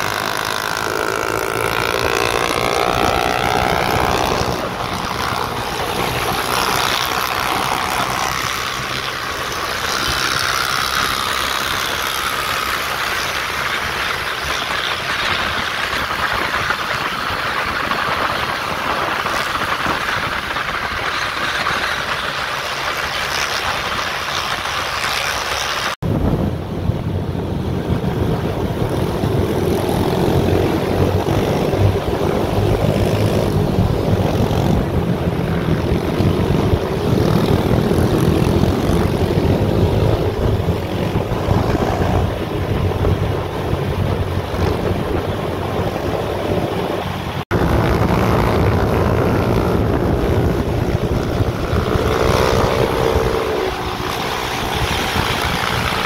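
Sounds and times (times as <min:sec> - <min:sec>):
vehicle engine running: 0:00.0 - 0:56.0
wind and road noise: 0:00.0 - 0:56.0.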